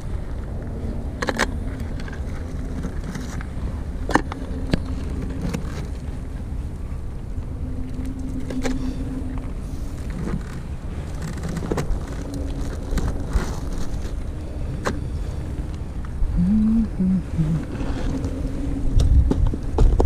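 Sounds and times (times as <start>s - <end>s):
faint steady hum: 0.0s - 20.0s
wind on microphone: 0.0s - 20.0s.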